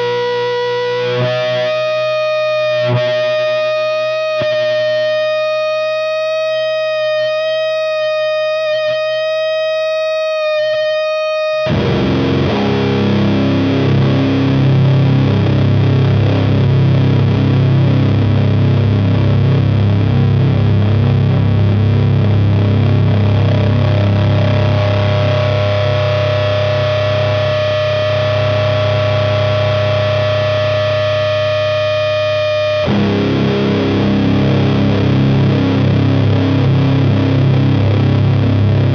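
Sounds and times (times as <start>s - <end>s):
distorted electric guitar drone: 0.0s - 38.9s
heavy guitar chord: 0.0s - 38.9s.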